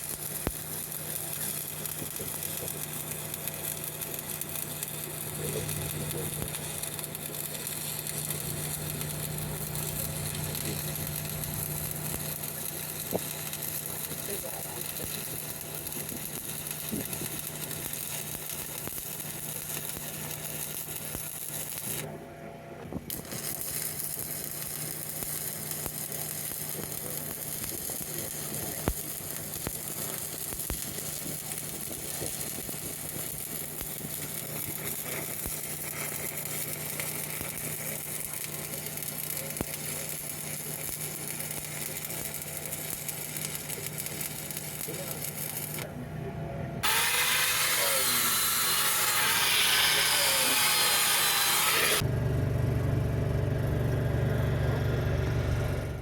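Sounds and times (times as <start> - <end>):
welding arc crackling: 0.0 - 22.1, 23.1 - 45.9, 46.8 - 52.1.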